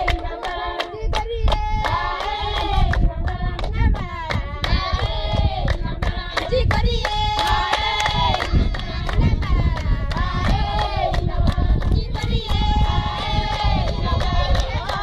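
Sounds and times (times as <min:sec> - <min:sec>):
rhythmic hand clapping: 0:00.0 - 0:15.0
women and children singing: 0:00.0 - 0:15.0.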